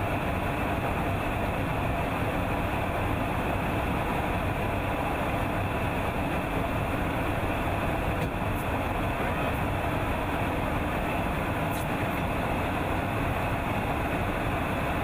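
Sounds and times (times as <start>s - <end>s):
aircraft engine drone: 0.0s - 15.0s.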